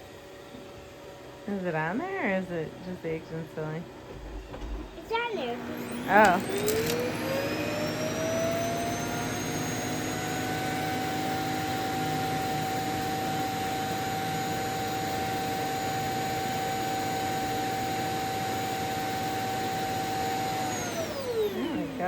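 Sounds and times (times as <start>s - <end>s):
suction motor whining: 2.4s - 22.0s.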